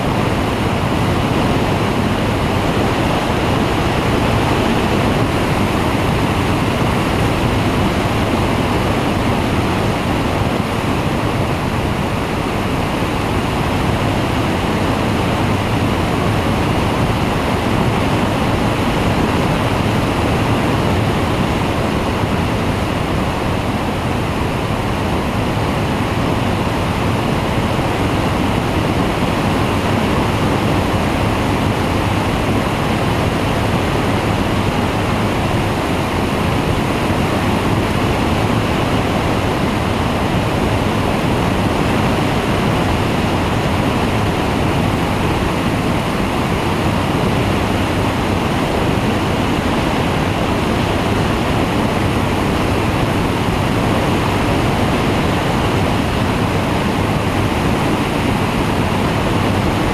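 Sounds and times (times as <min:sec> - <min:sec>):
engine and propeller droning: 0:00.0 - 0:59.9
wind rushing over microphone: 0:00.0 - 0:59.9.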